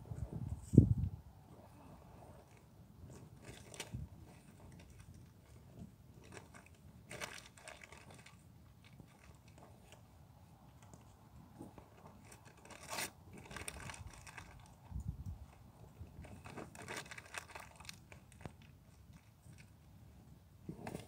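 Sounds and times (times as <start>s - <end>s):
faint crunching and rustling: 0.0s - 21.0s.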